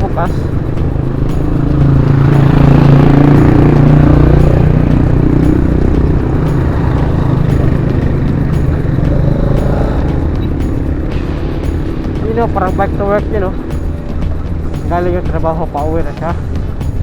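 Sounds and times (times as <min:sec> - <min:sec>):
road and wind noise: 0:00.0 - 0:17.0
vehicle engine humming: 0:00.0 - 0:17.0.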